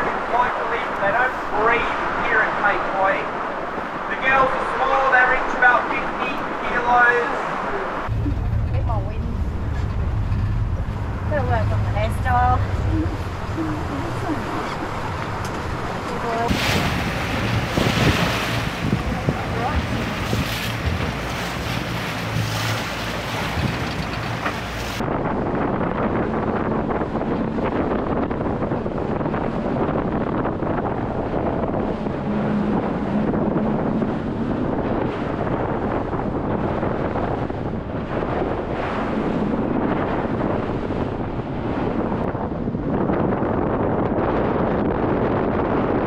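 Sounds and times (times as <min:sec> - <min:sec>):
boat engine drone: 0:00.0 - 0:46.0
sea waves: 0:00.0 - 0:46.0
water rushing past hull: 0:00.0 - 0:46.0
wind buffeting microphone: 0:00.0 - 0:46.0.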